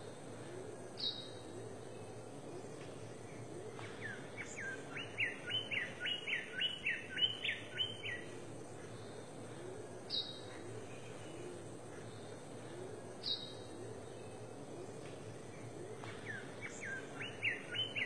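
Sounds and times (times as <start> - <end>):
forest background noise: 0.0 - 18.0.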